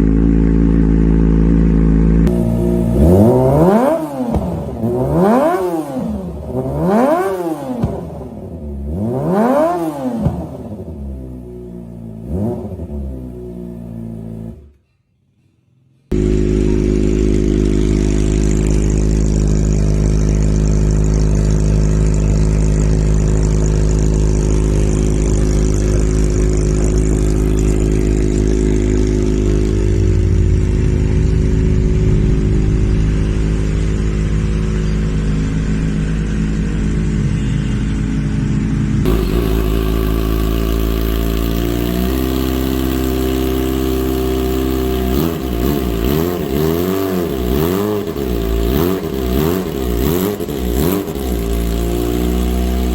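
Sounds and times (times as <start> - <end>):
motorcycle engine idling: 0.0 - 14.8, 16.1 - 52.9.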